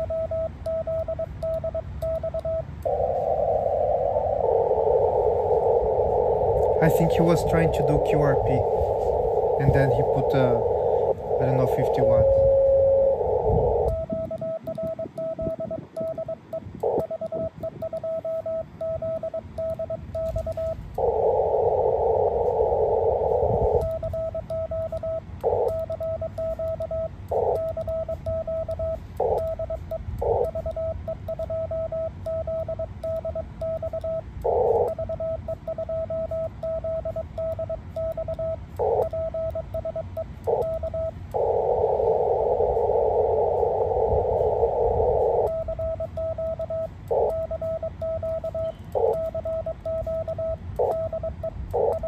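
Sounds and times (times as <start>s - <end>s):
morse code tone: 0.0s - 52.0s
radio band noise hiss: 0.0s - 52.0s.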